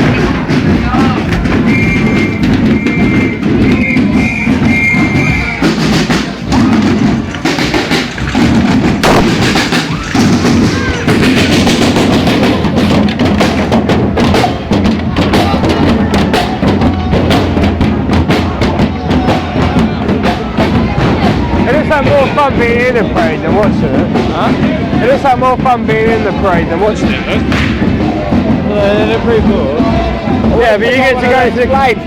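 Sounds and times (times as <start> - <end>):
loud noisy crowd: 0.0 - 32.0
marching drums beating: 0.0 - 32.0.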